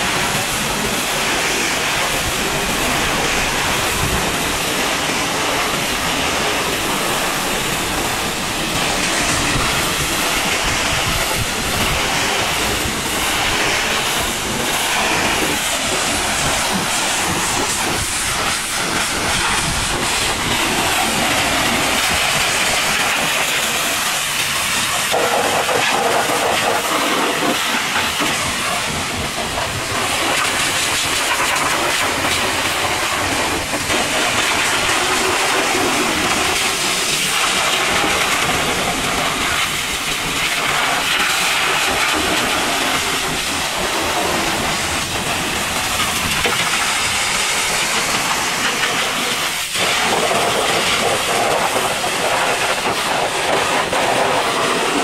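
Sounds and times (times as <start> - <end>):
pressure washer jet hissing: 0.0 - 55.0.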